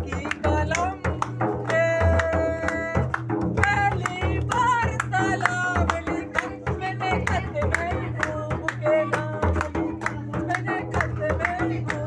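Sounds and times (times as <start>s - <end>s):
barrel drum played by hand: 0.0s - 12.0s
man singing folk song: 0.0s - 12.0s.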